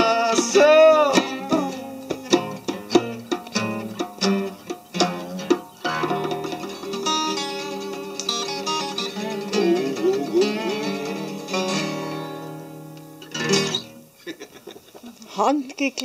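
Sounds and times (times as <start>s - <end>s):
plucked guitar: 0.0s - 14.2s.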